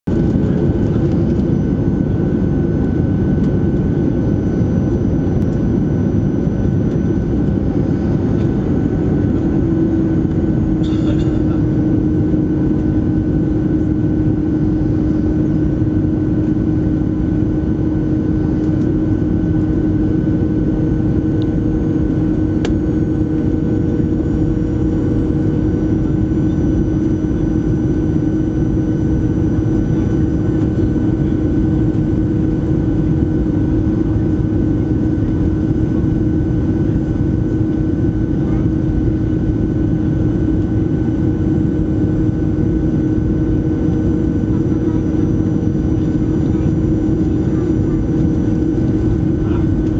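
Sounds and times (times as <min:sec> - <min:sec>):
jet engines droning: 0:00.1 - 0:49.9.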